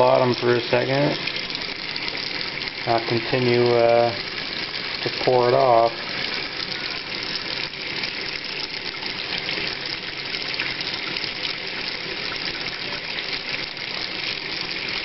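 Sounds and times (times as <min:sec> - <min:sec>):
water running into drain: 0:00.0 - 0:15.0
water splashing into sink: 0:00.0 - 0:15.0.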